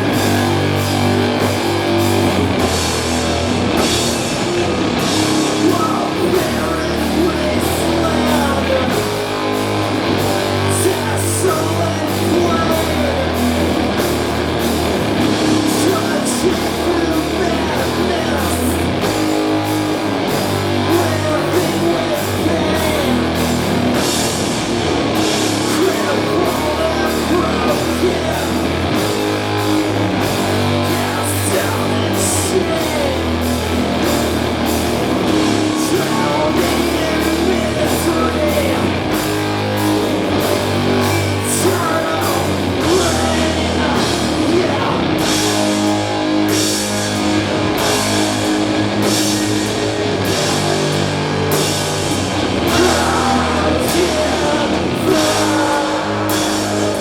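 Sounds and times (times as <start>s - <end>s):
bass holding low notes: 0.0s - 57.0s
doom metal band playing live: 0.0s - 57.0s
drums and cymbals struck: 0.0s - 57.0s
heavy distorted guitars: 0.0s - 57.0s.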